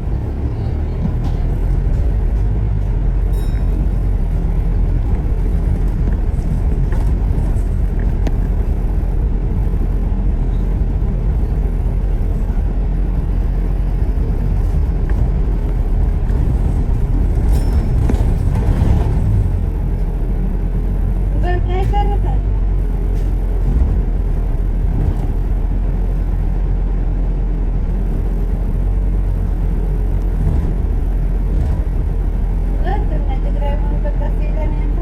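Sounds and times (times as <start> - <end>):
bus engine: 0.0 - 35.0
road noise: 0.0 - 35.0.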